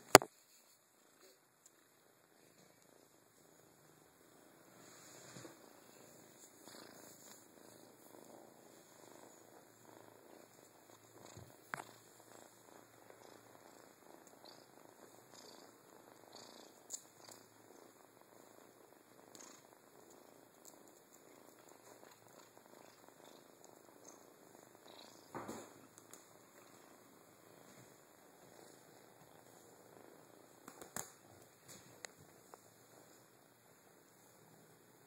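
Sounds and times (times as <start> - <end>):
kitten purring: 0.0 - 35.0.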